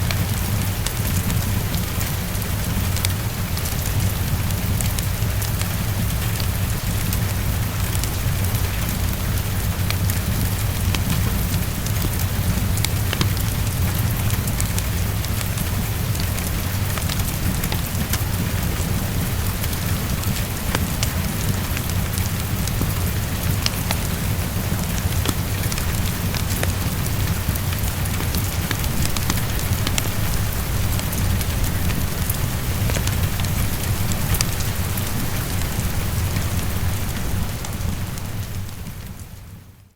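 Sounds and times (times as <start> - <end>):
heavy rain on a window: 0.0 - 39.9
wood fire crackling: 0.0 - 39.9.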